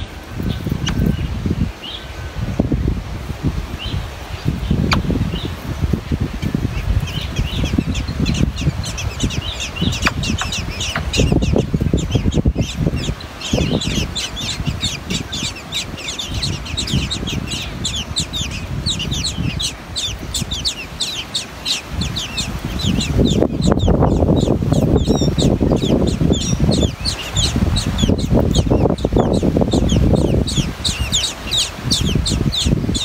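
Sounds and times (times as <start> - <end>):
nestlings begging chirps: 0.0 - 2.2, 3.8 - 5.6, 6.2 - 33.0
low rumbling background noise: 0.0 - 33.0.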